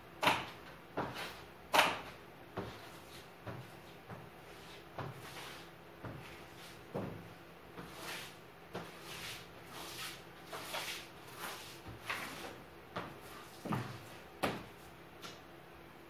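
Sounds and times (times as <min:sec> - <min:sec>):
broom sweeping hard floor: 0:01.0 - 0:15.4.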